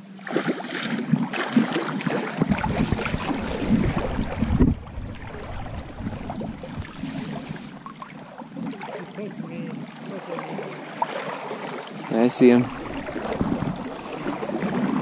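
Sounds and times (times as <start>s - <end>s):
river water churning: 0.0s - 15.0s
water lapping: 0.0s - 15.0s
fish thrashing and splashing: 0.2s - 15.0s.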